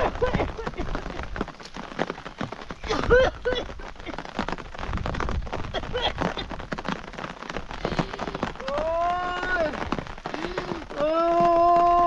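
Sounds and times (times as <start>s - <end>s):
rain pattering on a surface: 0.0s - 12.0s.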